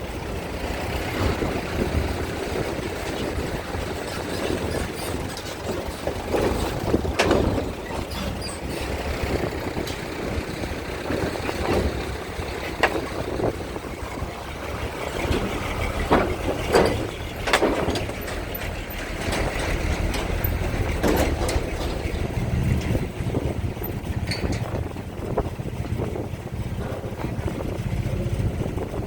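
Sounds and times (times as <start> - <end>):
gusty wind: 0.0 - 29.0
low engine rumble: 0.0 - 29.0.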